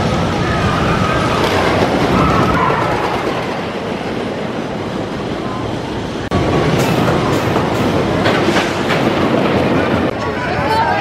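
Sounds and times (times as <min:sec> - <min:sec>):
roller coaster rumbling on wooden track: 0:00.0 - 0:11.0.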